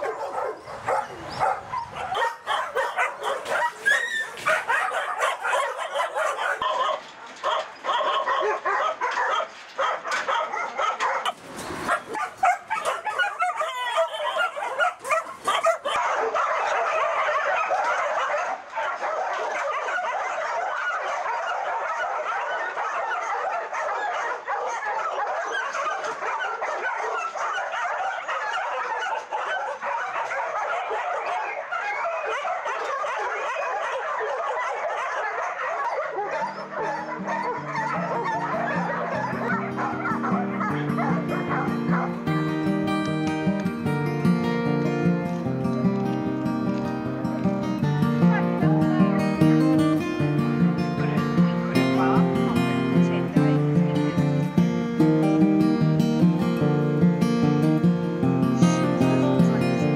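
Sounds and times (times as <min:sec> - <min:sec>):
many dogs barking: 0:00.0 - 0:59.9.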